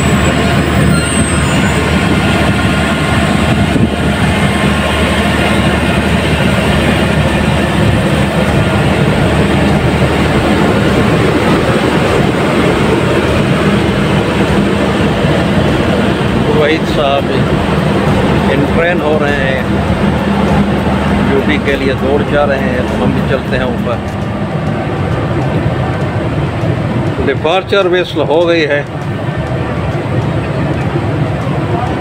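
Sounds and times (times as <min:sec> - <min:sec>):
diesel generator droning: 0:00.0 - 0:32.0.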